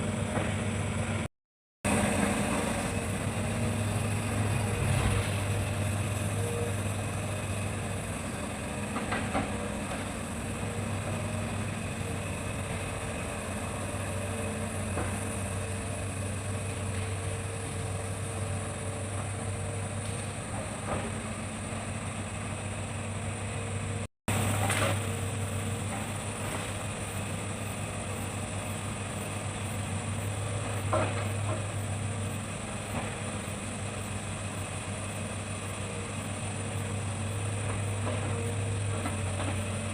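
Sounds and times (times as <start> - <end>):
excavator diesel engine running: 0.0 - 1.3, 1.9 - 39.9.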